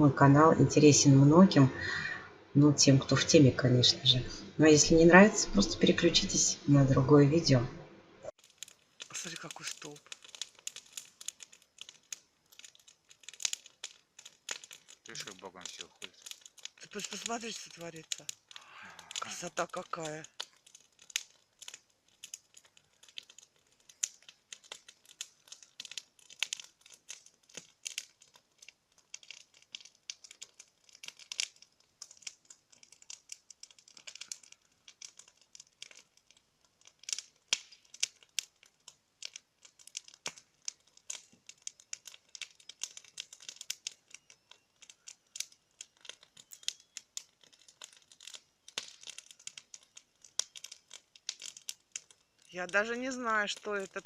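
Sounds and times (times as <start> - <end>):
wood fire crackling: 0.0 - 54.0
sharp pops and snaps: 8.2 - 54.0.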